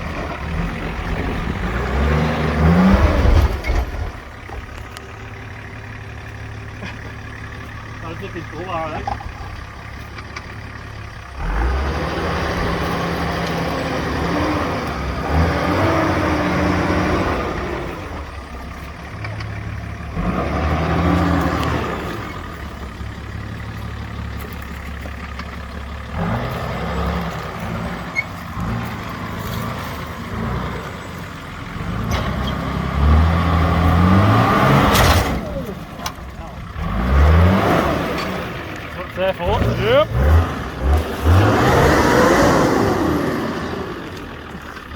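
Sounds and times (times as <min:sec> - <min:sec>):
four-wheel-drive engine revving: 0:00.0 - 0:44.9.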